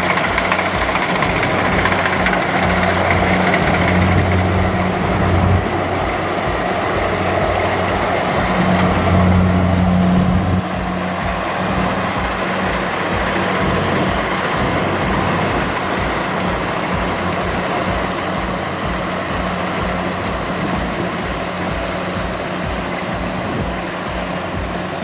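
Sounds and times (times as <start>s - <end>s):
combine harvester engine: 0.0s - 25.0s
machinery noise: 0.0s - 25.0s.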